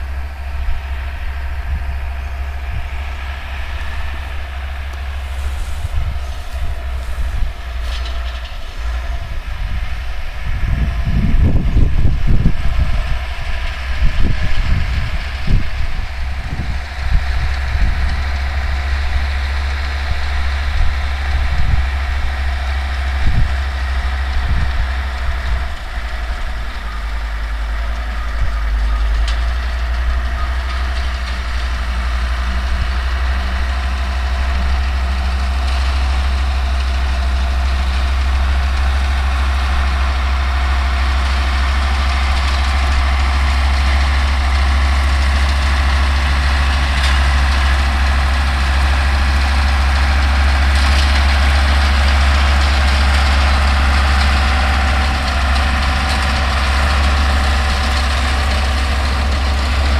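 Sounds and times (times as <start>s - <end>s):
baler machinery: 0.0s - 59.9s
tractor diesel engine running: 0.0s - 59.9s.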